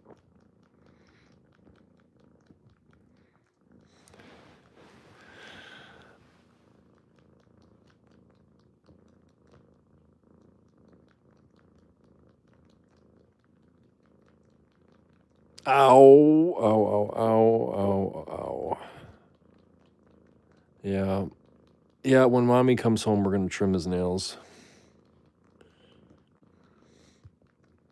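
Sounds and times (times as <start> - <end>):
kitten purring: 0.0 - 27.9.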